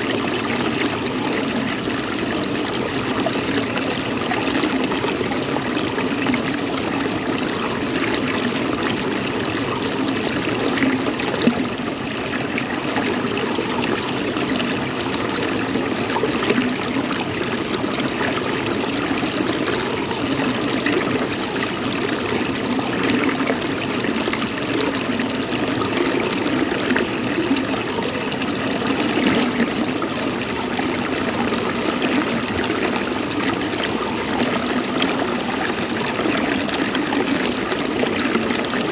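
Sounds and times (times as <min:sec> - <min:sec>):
running water trickling: 0:00.0 - 0:38.9.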